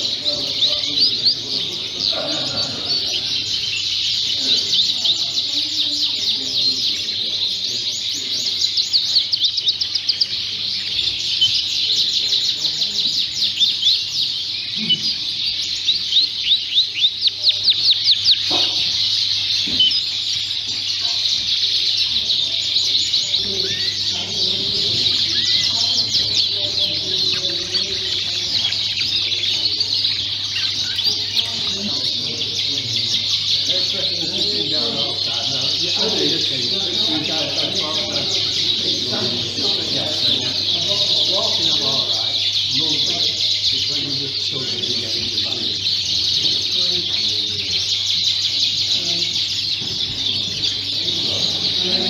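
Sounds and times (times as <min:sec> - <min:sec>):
canaries singing chorus: 0:00.0 - 0:52.0
fast rolling bird trills: 0:00.0 - 0:52.0.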